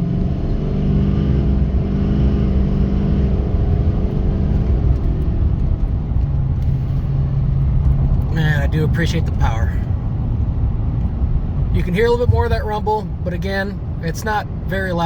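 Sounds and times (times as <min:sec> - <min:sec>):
diesel engine accelerating: 0:00.0 - 0:15.0.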